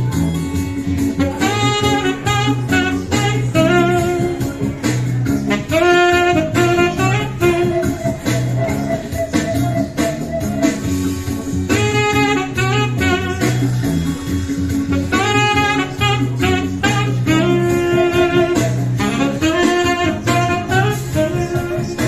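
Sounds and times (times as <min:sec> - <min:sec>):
backing track with bass and beat: 0:00.0 - 0:22.0
saxophone melody: 0:00.0 - 0:22.0.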